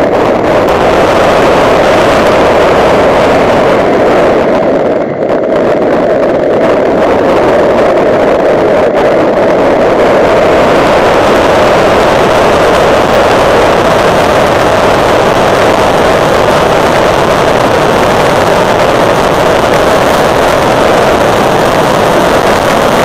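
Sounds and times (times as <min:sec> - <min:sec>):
car engine and wind noise: 0:00.0 - 0:23.0.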